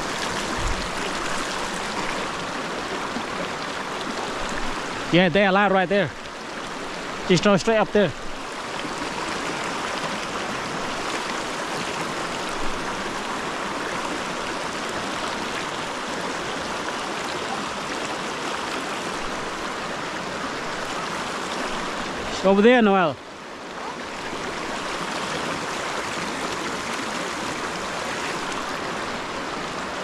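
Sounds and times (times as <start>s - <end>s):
river water rushing over rocks: 0.0s - 30.0s.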